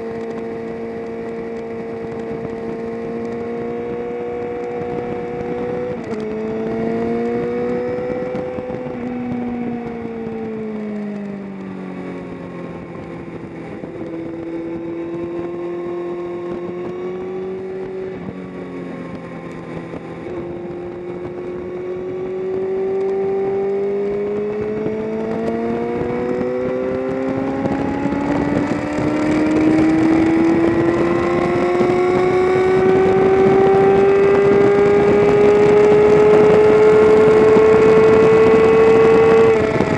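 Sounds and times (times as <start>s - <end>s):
motorcycle engine shifting gear: 0.0s - 39.9s
wind noise: 0.0s - 39.9s.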